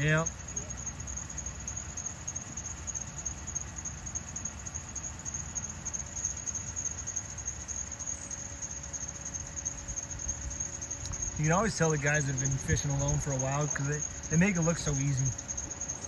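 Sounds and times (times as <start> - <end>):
faint steady hum: 0.0 - 16.0
insect drone: 0.0 - 16.0.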